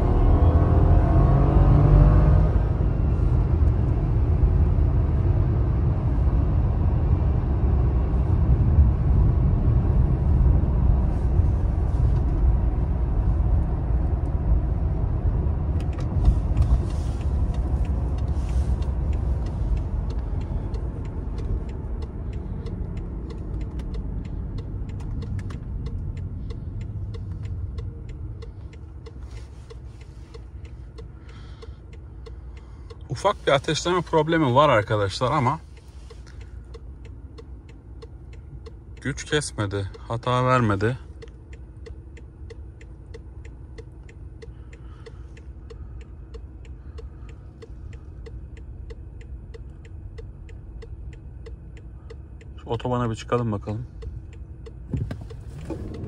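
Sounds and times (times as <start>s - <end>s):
car engine low rumble: 0.0s - 56.0s.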